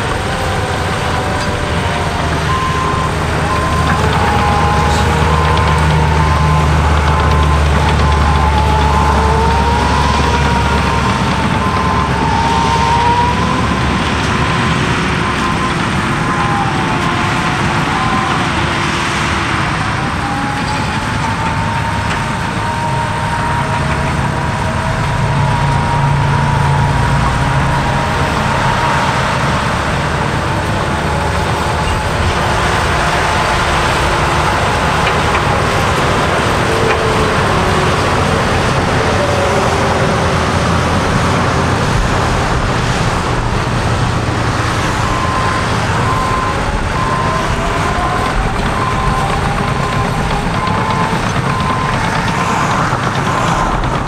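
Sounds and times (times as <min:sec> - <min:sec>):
bulldozer diesel engine running: 0:00.0 - 0:54.0
whining tones: 0:00.0 - 0:54.0.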